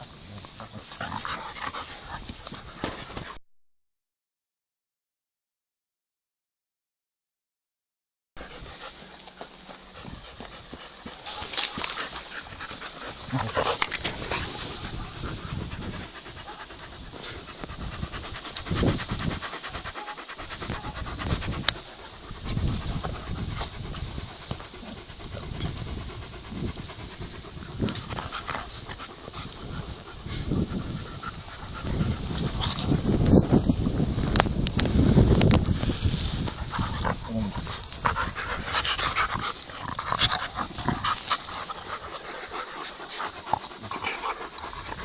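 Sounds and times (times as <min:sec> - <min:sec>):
dog panting: 0:00.5 - 0:03.3, 0:08.4 - 0:33.1, 0:36.4 - 0:45.0.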